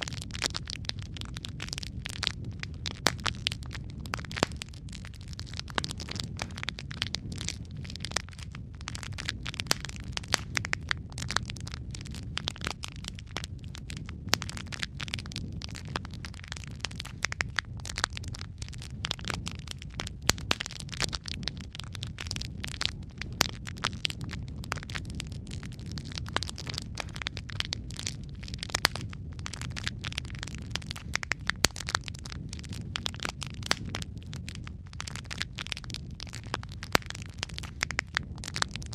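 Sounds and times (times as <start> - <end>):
fire crackling in a fireplace: 0.0 - 38.9.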